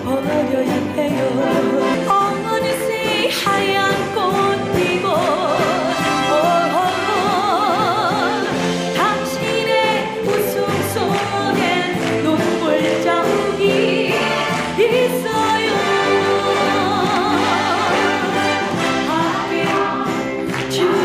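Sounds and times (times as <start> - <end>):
music with singing voices: 0.0 - 21.0.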